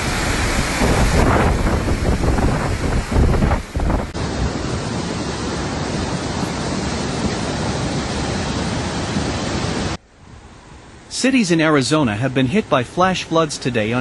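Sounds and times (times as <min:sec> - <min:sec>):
flood water rushing: 0:00.0 - 0:14.0.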